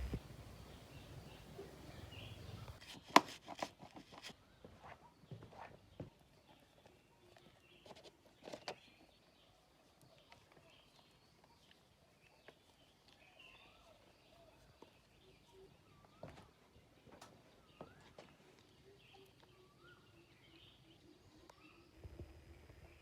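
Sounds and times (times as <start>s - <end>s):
faint bird chirps: 0.0s - 3.0s, 4.3s - 23.0s.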